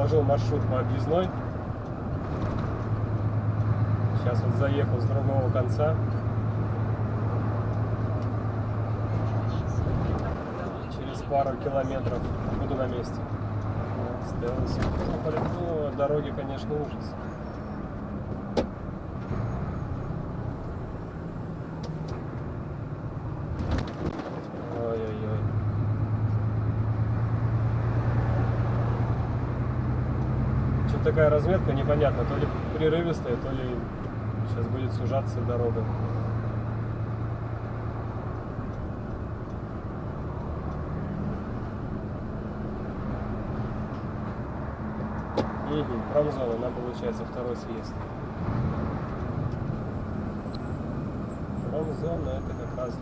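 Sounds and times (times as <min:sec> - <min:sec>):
road noise: 0:00.0 - 0:53.0
truck engine drone: 0:00.0 - 0:53.0.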